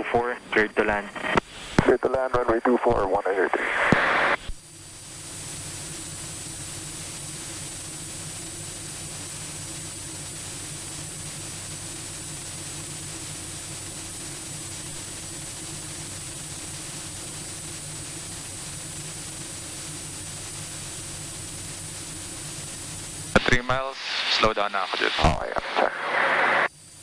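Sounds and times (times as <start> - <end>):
airflow hiss: 0.0 - 27.0
thin high whine: 0.0 - 27.0
turboprop engine drone: 0.0 - 27.0.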